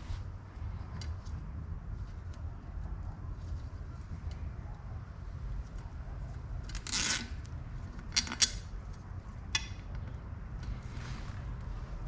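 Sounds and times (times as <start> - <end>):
steady low rumble: 0.0 - 6.8, 7.4 - 12.0.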